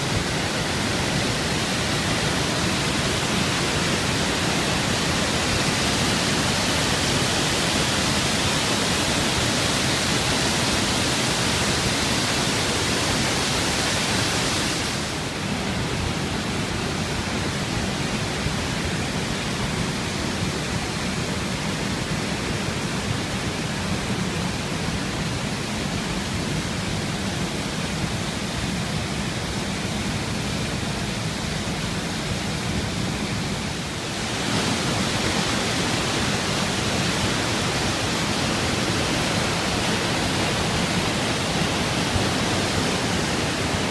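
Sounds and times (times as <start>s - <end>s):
whitewater rushing over rapids: 0.0s - 43.9s.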